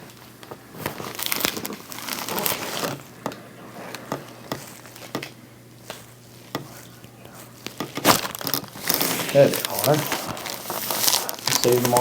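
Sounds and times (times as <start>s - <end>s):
paper crinkling and rustling: 0.0s - 3.1s, 3.7s - 12.0s.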